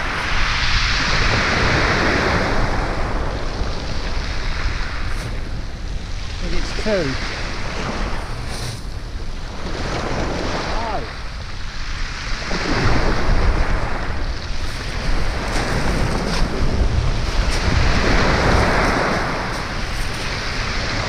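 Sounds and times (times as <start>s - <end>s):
sea waves breaking on beach: 0.0s - 21.0s
wind buffeting microphone: 0.0s - 21.0s.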